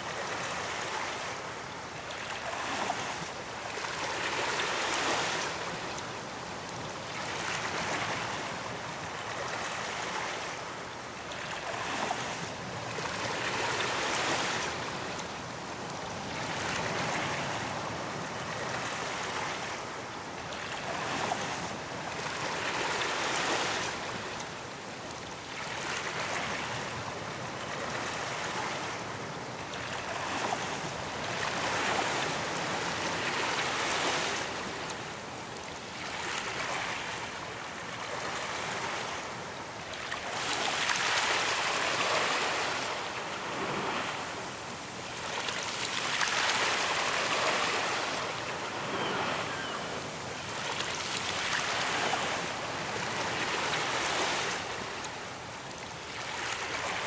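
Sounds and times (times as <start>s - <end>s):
ocean waves breaking on a beach: 0.0s - 57.0s.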